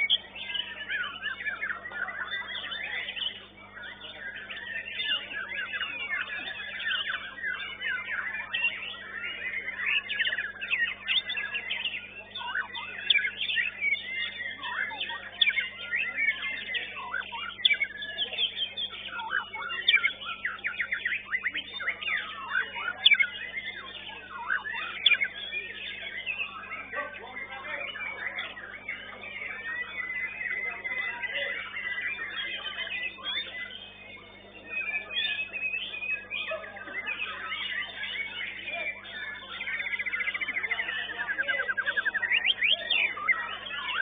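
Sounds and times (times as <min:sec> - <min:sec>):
songbirds singing: 0:00.0 - 0:44.0.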